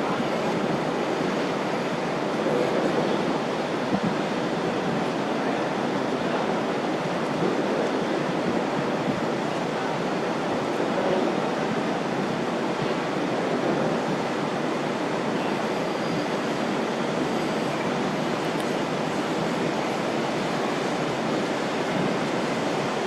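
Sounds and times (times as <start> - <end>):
wind and water rushing: 0.0 - 23.0.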